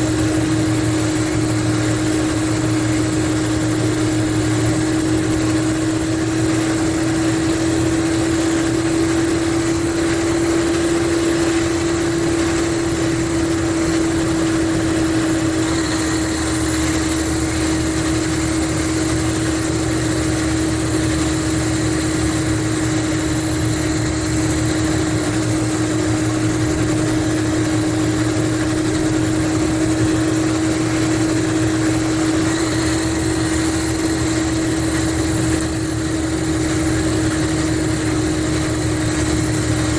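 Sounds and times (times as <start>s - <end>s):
coach engine droning: 0.0s - 39.9s.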